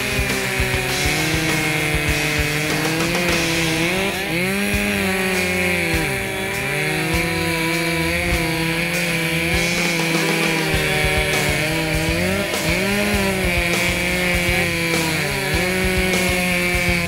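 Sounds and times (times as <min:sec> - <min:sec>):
chainsaws cutting logs: 0:00.0 - 0:17.0
rock music: 0:00.0 - 0:17.0.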